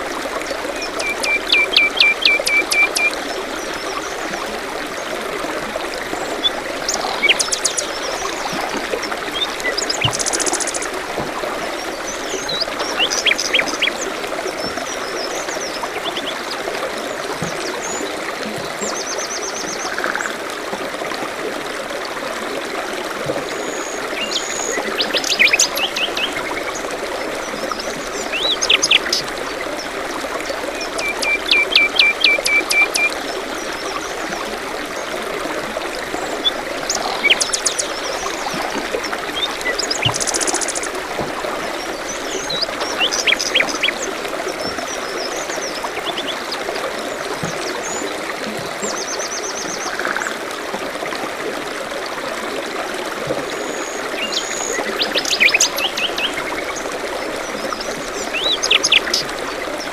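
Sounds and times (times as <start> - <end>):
small stream running: 0.0 - 59.9.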